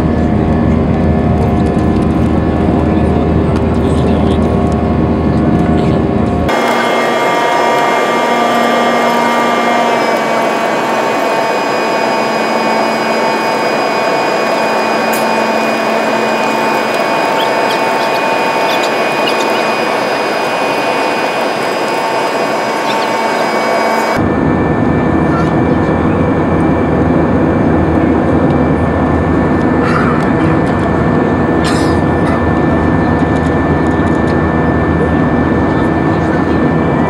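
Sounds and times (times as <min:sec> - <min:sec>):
jet engines rushing: 0:00.0 - 0:37.0
high whining tones: 0:04.0 - 0:37.0.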